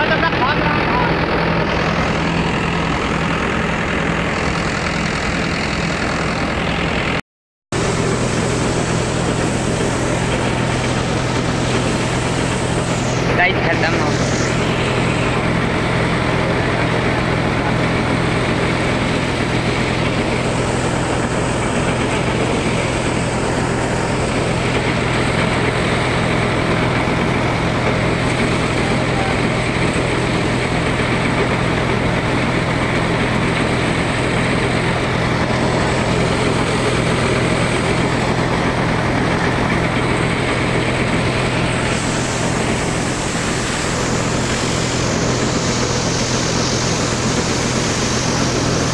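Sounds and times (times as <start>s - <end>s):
thresher running: 0.0s - 48.9s.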